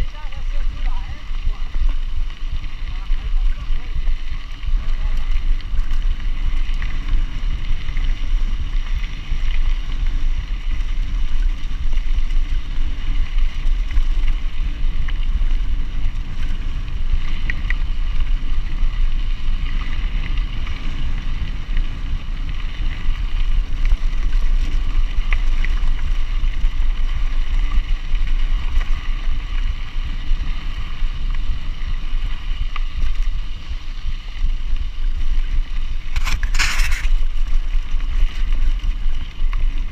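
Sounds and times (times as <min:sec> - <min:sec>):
bike tyres rolling on gravel: 0:00.0 - 0:39.9
wind rumble on microphone: 0:00.0 - 0:39.9.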